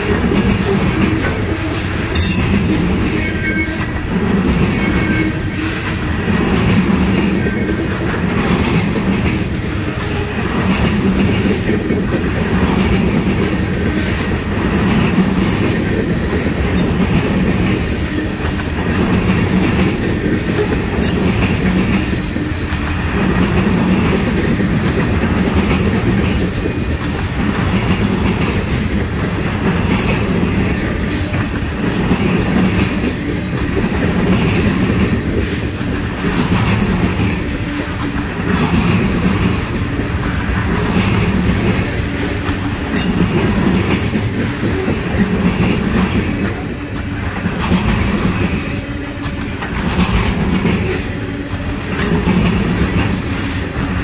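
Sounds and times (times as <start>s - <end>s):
train cars rolling on rails: 0.0s - 54.0s
wheels clacking over rail joints: 0.0s - 54.0s.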